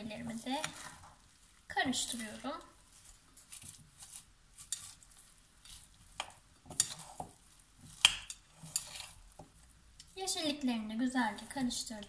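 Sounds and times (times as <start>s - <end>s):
salad rustling in a bowl: 0.0s - 12.0s.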